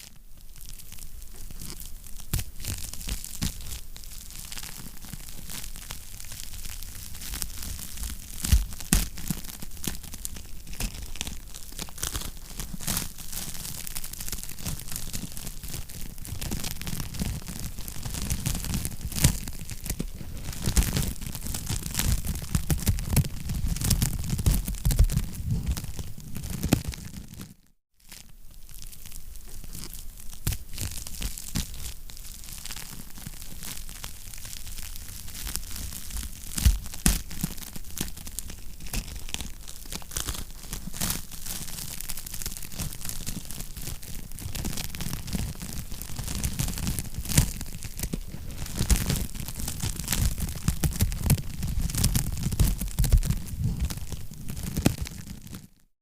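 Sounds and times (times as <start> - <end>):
wood fire crackling: 0.0 - 27.5, 28.1 - 55.6.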